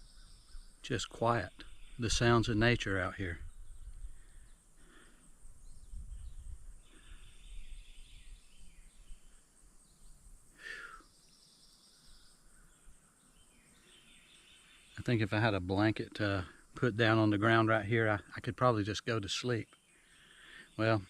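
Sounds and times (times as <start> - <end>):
bird calls and chirps: 0.0 - 21.0.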